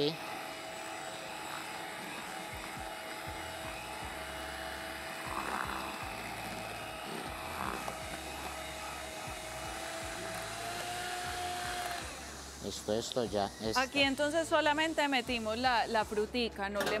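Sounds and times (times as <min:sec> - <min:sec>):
electric hand mixer whining: 0:00.0 - 0:16.7.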